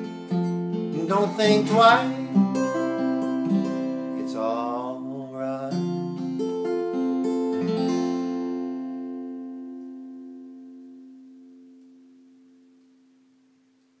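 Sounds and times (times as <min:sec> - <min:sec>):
acoustic guitar playing: 0:00.0 - 0:13.8.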